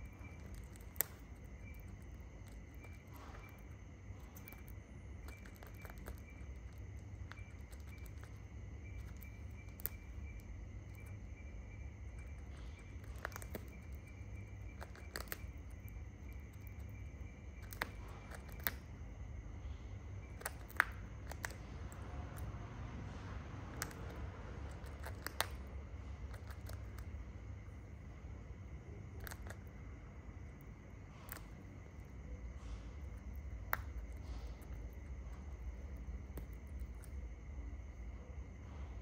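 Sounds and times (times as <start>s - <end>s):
faint high chirp: 0.0s - 39.0s
low hum: 0.0s - 39.0s.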